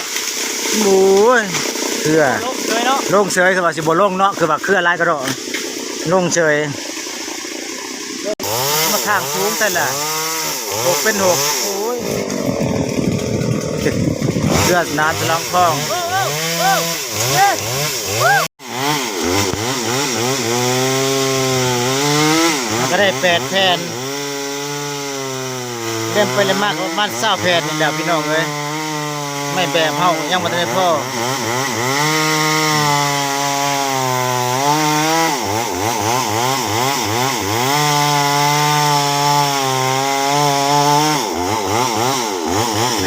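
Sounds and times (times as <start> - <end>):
chainsaw engine revving: 0.0 - 43.0.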